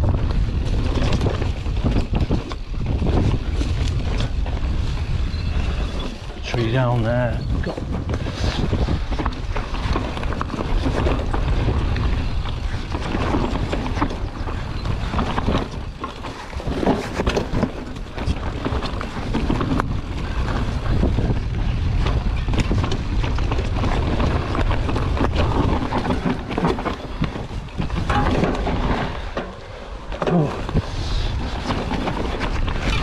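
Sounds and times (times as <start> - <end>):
bike knocks and rattles: 0.0 - 33.0
bike tyres rolling and skidding: 0.0 - 33.0
wind rumble on microphone: 0.0 - 33.0.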